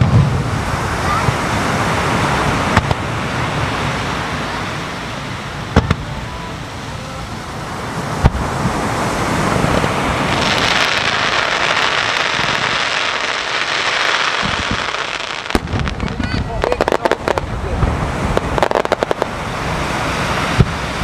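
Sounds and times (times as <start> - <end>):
fireworks booming: 0.0 - 6.8, 7.4 - 21.0
fireworks sparks hissing: 0.0 - 21.0
surf: 0.0 - 21.0.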